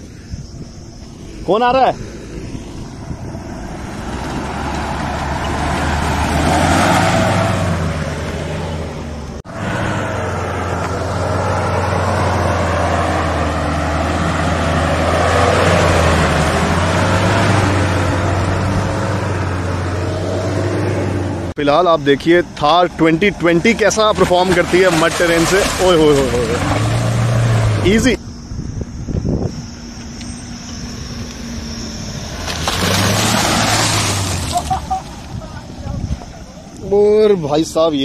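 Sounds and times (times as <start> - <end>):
suv engine revving: 1.0 - 37.4.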